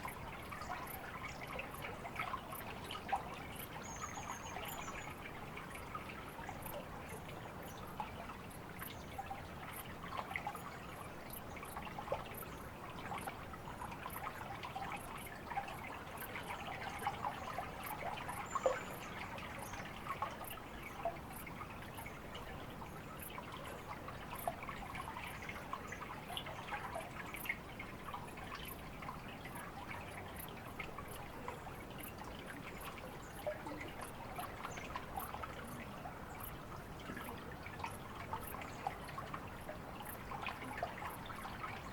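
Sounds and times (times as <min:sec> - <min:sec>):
small water splashes: 0:00.0 - 0:41.9
water trickling and dripping: 0:00.0 - 0:41.9.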